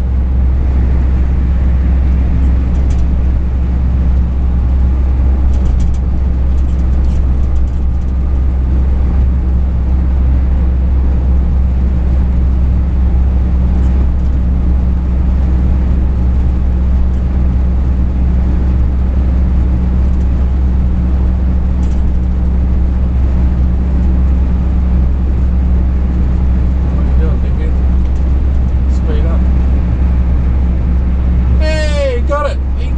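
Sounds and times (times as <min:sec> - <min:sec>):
truck engine and road noise: 0:00.0 - 0:32.9.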